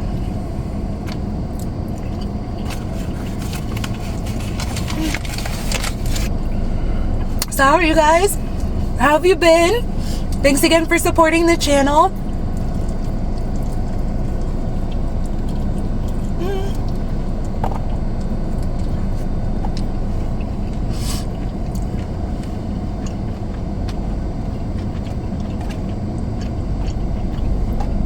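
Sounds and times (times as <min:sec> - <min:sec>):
car cabin engine rumble: 0:00.0 - 0:28.0.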